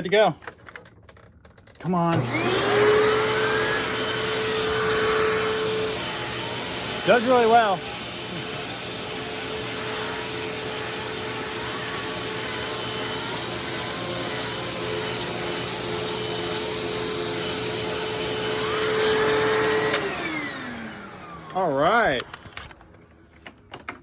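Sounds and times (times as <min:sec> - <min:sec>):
upright vacuum cleaner running: 0:01.9 - 0:22.9
motor winding down: 0:02.1 - 0:22.7.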